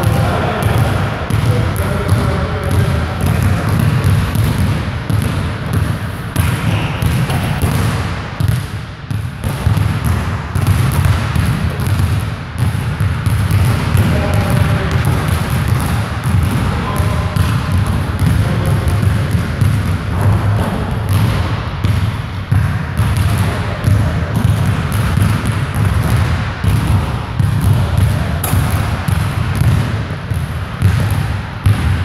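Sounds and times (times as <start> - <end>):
basketballs bouncing on hardwood floor: 0.0 - 32.0.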